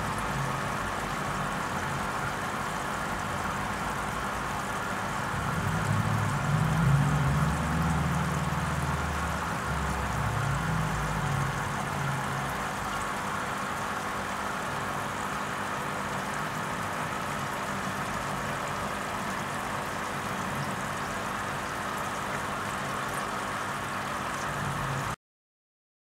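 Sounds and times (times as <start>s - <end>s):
machine hum with hiss: 0.0s - 25.2s.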